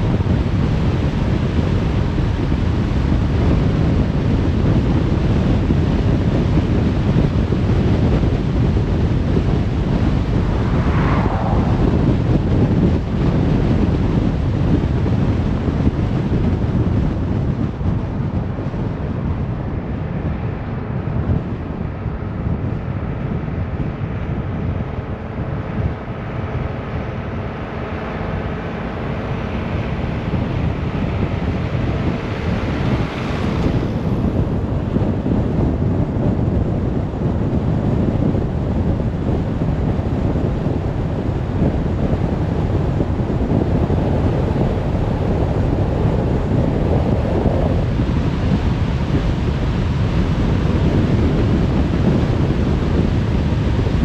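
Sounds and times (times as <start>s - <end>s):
faint engine tones: 0.0s - 54.0s
tyre and wind noise: 0.0s - 54.0s.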